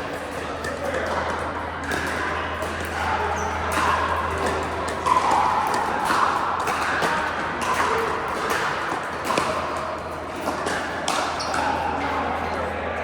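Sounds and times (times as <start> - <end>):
hubbub of voices: 0.0 - 13.0.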